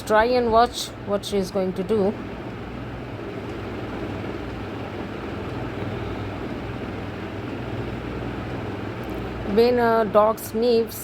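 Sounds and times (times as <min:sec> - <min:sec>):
urban background rumble and hum: 0:00.0 - 0:11.0.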